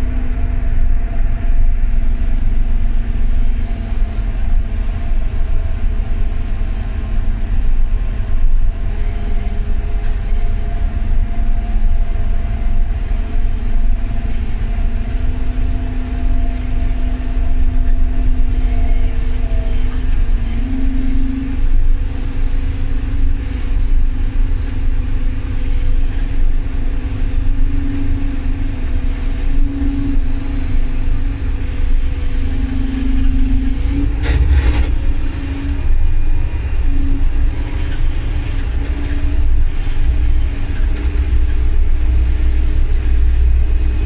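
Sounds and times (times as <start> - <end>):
tug engine rumbling: 0.0 - 44.0.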